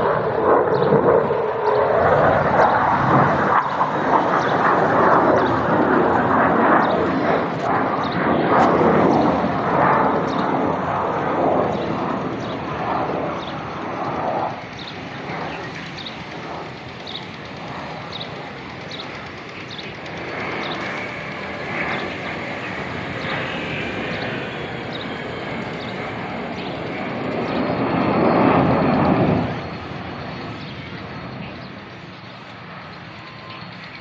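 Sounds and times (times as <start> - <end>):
jet roar: 0.0 - 34.0.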